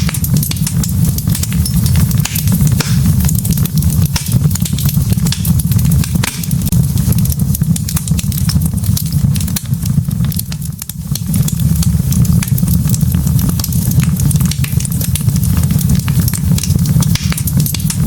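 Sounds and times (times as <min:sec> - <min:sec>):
low rumble of flame: 0:00.0 - 0:18.0
wood crackling and popping: 0:00.0 - 0:18.0.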